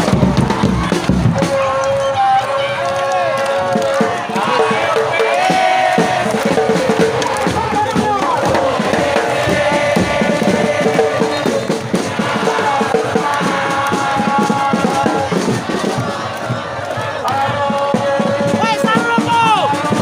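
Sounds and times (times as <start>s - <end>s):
crowd singing a chant: 0.0s - 20.0s
rapid drumming: 0.0s - 20.0s.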